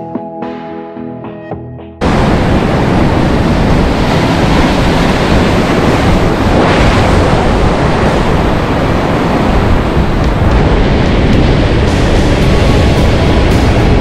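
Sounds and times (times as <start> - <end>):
surf breaking over rocks: 2.0 - 14.0
wind buffeting microphone: 2.0 - 14.0.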